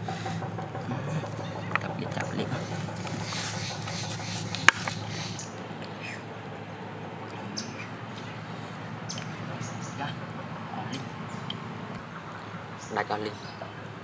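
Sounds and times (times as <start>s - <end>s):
background noise: 0.0s - 14.0s.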